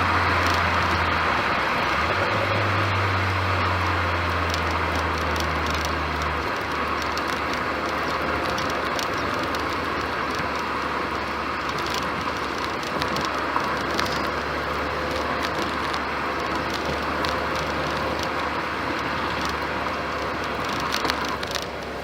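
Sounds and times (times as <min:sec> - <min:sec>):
car engine running steadily: 0:00.0 - 0:22.0.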